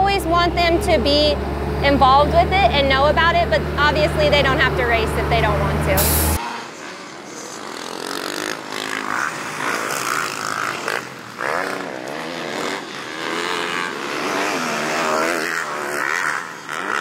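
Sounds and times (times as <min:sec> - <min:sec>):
motocross engine revving: 0:00.0 - 0:17.0.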